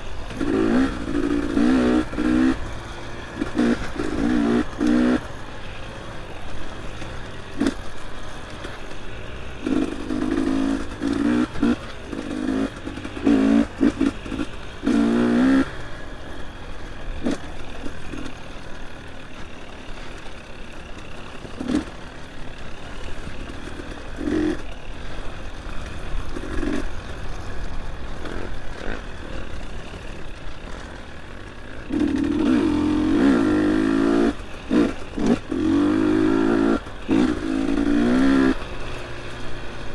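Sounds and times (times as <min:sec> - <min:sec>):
dirt bike engine revving: 0:00.1 - 0:27.5, 0:28.1 - 0:39.9
knocks and clatter from bike: 0:00.1 - 0:39.9.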